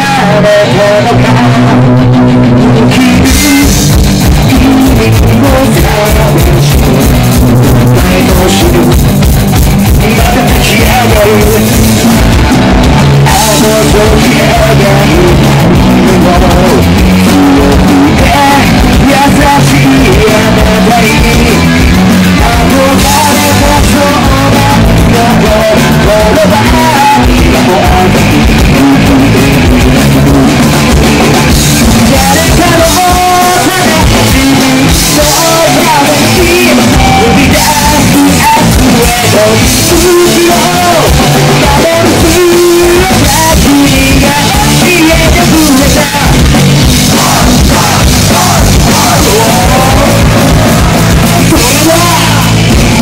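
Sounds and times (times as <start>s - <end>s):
bass guitar: 0.0s - 53.0s
drum kit beat: 0.0s - 53.0s
electric guitar: 0.0s - 53.0s
person singing: 0.0s - 53.0s.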